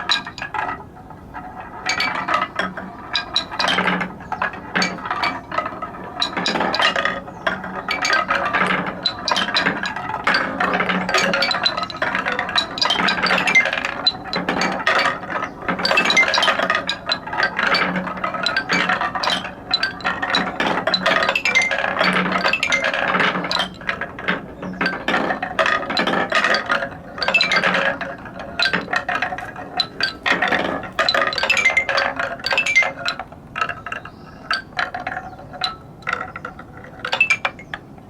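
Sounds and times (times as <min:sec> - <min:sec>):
wooden balls clattering down steps: 0:00.0 - 0:38.0.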